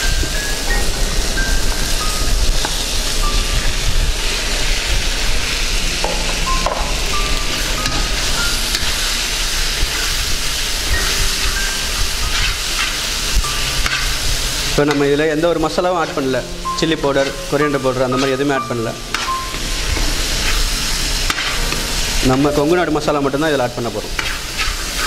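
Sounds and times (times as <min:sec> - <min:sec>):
chicken sizzling in pan: 0:00.0 - 0:25.0.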